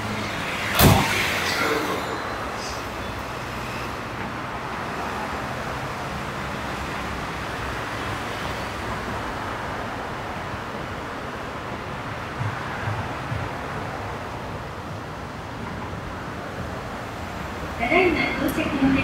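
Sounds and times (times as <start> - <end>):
train rushing rumble: 0.0 - 19.0.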